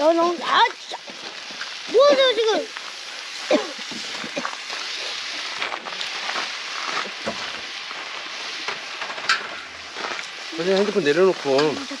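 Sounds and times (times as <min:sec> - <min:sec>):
pork sizzling on a lid: 0:00.0 - 0:12.0.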